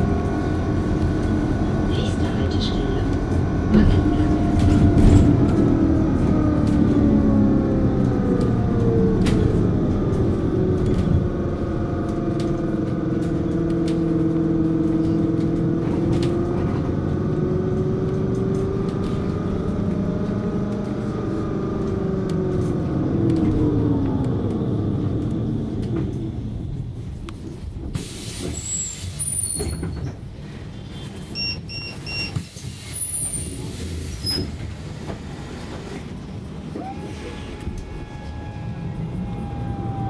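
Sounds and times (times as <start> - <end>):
road rumble: 0.0 - 40.0
trolleybus electric drive whining: 0.0 - 40.0.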